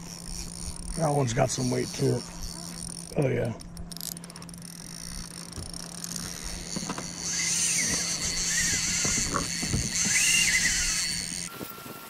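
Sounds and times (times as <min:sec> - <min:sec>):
fishing reel whirring: 0:00.0 - 0:11.5
steady low hum: 0:00.0 - 0:11.8.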